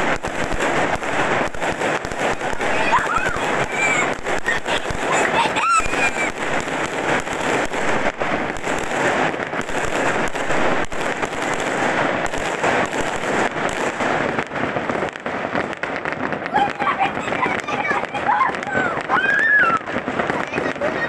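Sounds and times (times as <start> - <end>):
fireworks and firecrackers banging: 0.0 - 21.0.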